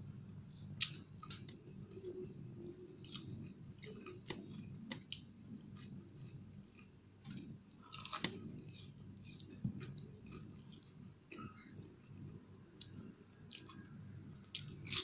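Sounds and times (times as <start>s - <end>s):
wet chewing with crunches: 0.8s - 12.0s, 12.8s - 15.0s.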